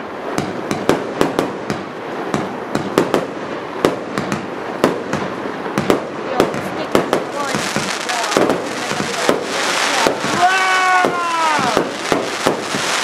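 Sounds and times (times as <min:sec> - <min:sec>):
fireworks bangs: 0:00.0 - 0:13.0
fireworks crackle: 0:00.0 - 0:13.0.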